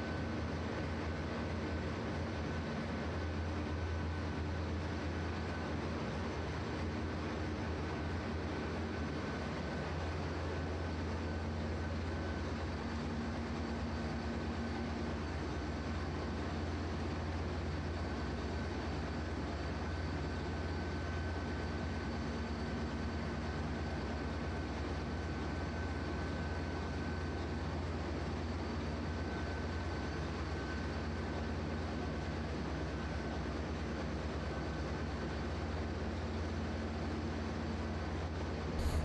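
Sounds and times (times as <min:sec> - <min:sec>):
engine room low hum: 0:00.0 - 0:39.0
faint steady whine: 0:00.0 - 0:39.0.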